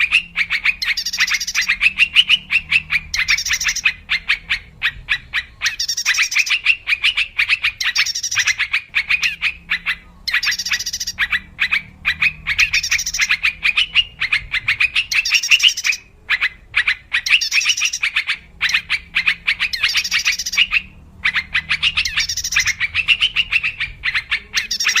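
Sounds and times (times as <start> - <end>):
bird chattering calls: 0.0 - 25.0.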